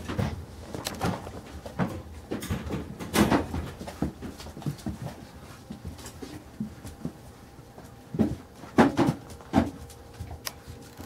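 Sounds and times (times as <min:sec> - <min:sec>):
puppies scuffling: 0:00.0 - 0:11.0.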